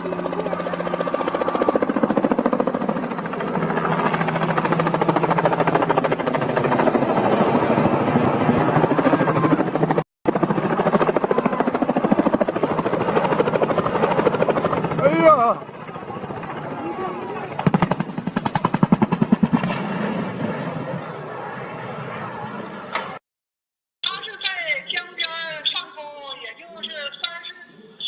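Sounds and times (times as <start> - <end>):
helicopter rotor chopping: 0.0 - 23.2.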